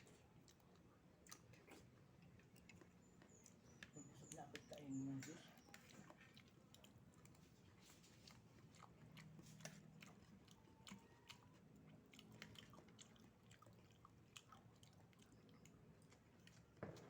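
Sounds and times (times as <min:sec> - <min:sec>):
faint wet chewing: 0:00.0 - 0:17.0.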